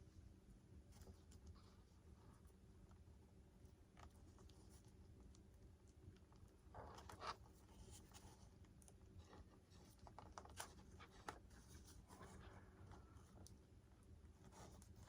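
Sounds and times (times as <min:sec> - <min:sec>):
faint scratching and rustling: 0:00.0 - 0:15.0.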